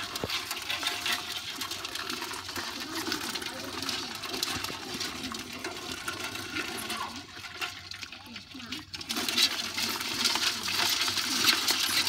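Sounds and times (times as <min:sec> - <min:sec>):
small clicks and clatters: 0:00.0 - 0:12.0
water splashing and running: 0:00.0 - 0:12.0.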